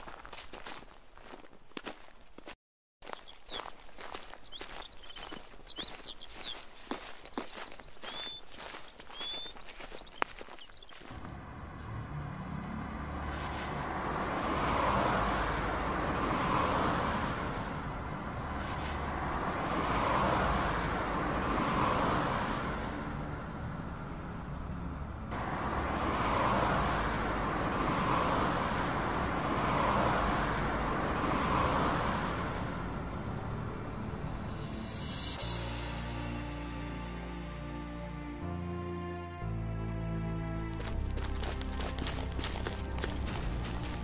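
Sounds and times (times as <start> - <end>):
heavy truck engines rumbling: 3.0 - 34.8, 35.5 - 44.0.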